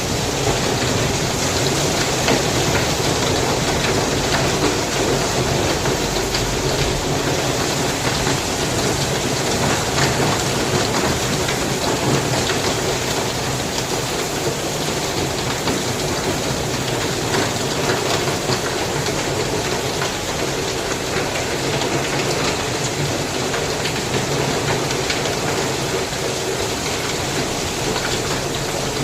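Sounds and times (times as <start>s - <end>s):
heavy rain pouring: 0.0s - 29.0s
wind: 0.0s - 29.0s.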